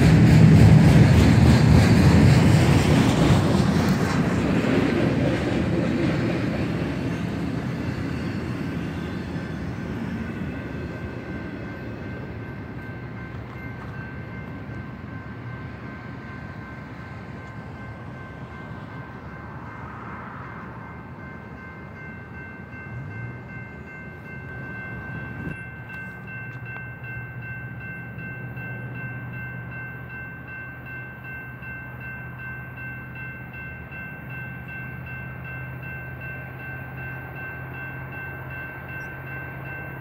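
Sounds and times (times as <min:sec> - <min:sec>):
freight train rumbling past: 0:00.0 - 0:40.0
crossing bell ringing: 0:06.5 - 0:40.0.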